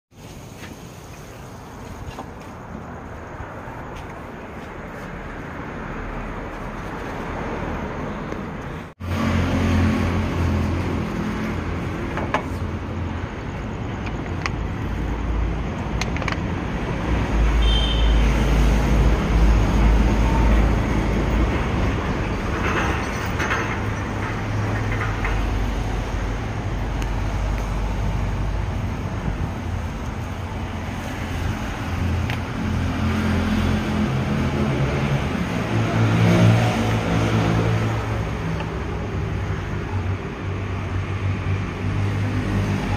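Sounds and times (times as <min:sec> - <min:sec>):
street noise: 0:00.1 - 0:42.9.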